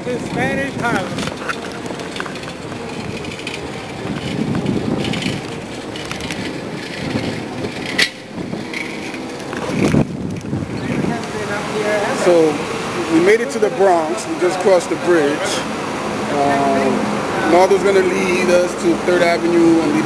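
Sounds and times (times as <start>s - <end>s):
bicycle tyres rumbling on road: 0.0s - 20.0s.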